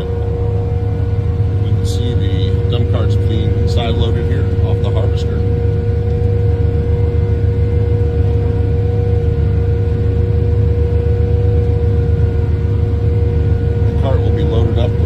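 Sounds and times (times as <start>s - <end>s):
harvester engine drone: 0.0s - 15.0s
machinery whine: 0.0s - 15.0s.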